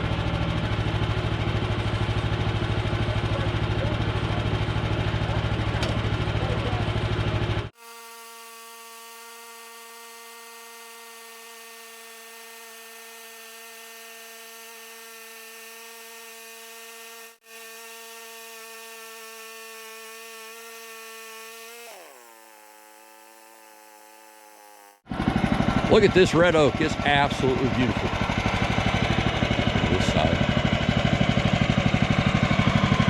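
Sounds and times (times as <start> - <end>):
band sawmill whining: 0.0 - 33.0.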